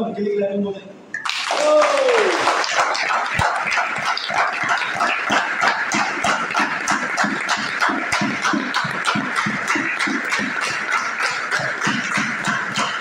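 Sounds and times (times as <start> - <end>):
crowd clapping: 1.2 - 13.0.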